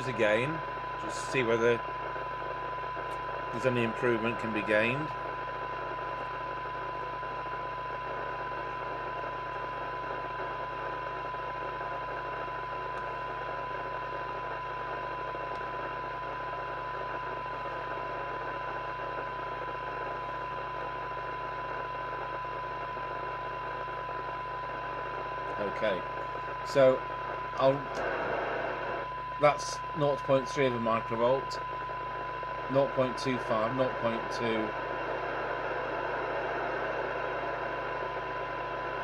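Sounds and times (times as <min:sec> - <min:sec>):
radio receiver hiss: 0:00.0 - 0:39.0
steady test tone from loudspeaker: 0:00.0 - 0:39.0.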